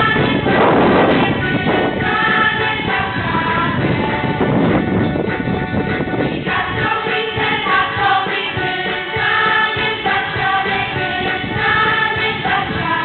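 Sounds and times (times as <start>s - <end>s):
young choir singing: 0.0s - 4.4s, 6.2s - 13.0s.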